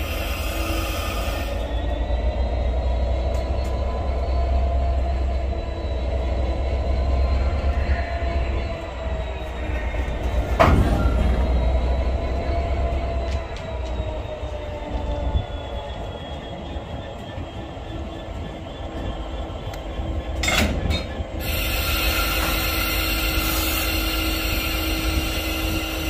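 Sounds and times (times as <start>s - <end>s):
diesel locomotive droning: 0.0s - 26.0s.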